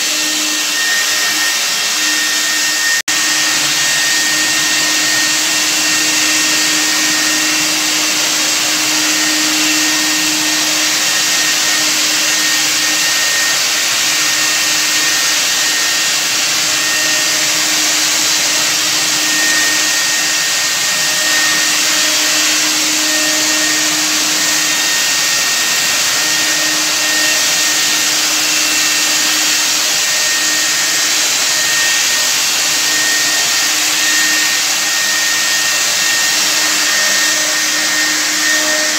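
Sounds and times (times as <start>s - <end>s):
fogger motor whine: 0.0s - 38.9s.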